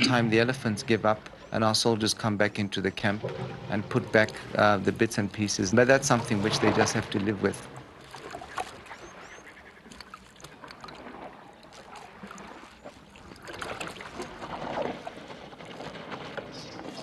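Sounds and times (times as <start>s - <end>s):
elephant trunk sloshing water: 2.9s - 17.0s.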